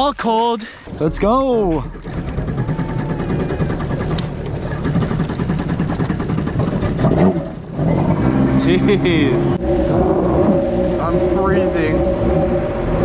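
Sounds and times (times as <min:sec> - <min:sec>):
jet ski engine running: 0:00.8 - 0:13.0.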